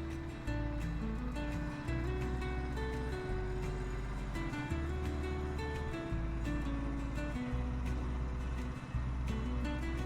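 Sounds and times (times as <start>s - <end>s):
guitar: 0.0s - 10.0s
steady bass line: 0.0s - 10.0s.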